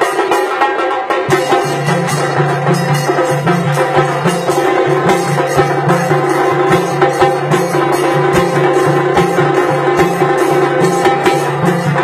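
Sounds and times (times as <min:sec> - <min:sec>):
metallic cymbal jingle: 0:01.3 - 0:12.0.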